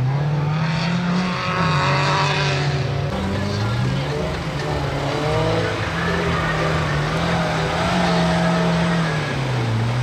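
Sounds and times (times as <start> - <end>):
car engine running under throttle: 0.0 - 10.0.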